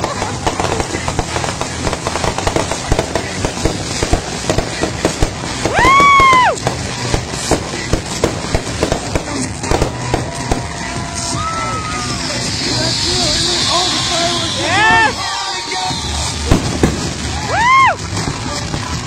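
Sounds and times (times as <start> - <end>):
firework crackling pops: 0.0 - 15.1, 16.2 - 19.0.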